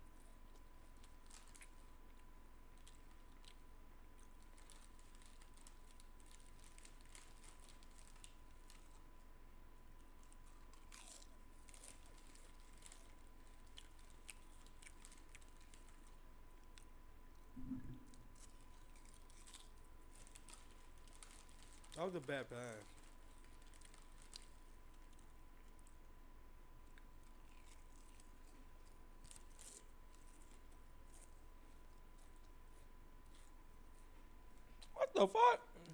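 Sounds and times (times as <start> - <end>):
faint clicks and crackles: 0.0 - 9.3, 9.9 - 26.2, 26.8 - 35.0
faint high-pitched hum: 0.0 - 35.9.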